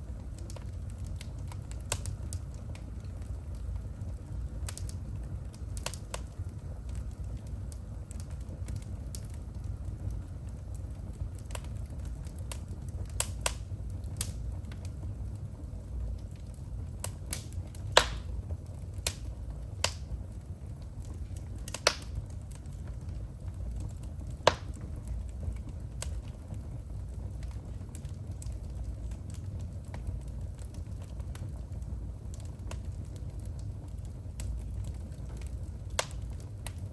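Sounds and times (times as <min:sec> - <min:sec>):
fire crackling and popping: 0:00.0 - 0:36.9
fire flames rumbling: 0:00.0 - 0:36.9.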